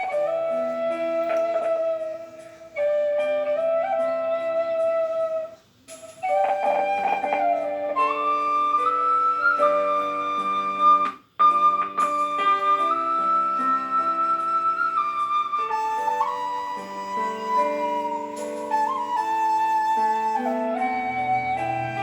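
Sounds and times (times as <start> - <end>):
flute melody in long notes: 0.0 - 22.0
plucked string accompaniment: 0.0 - 22.0.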